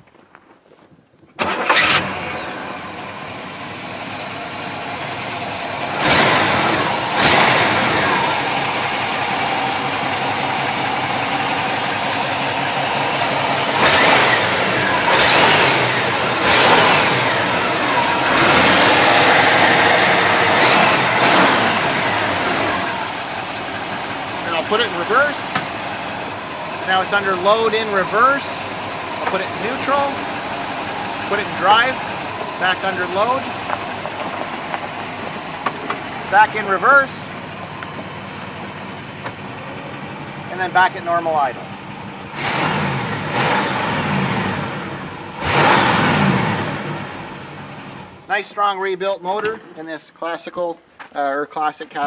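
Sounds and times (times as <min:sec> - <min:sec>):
car engine starting and idling: 0:01.4 - 0:49.9.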